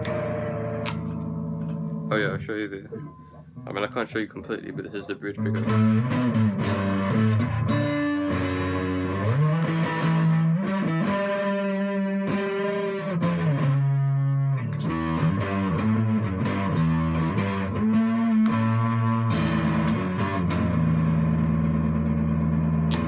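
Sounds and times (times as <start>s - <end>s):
electric guitar sliding notes: 0.0s - 3.4s, 5.4s - 23.0s.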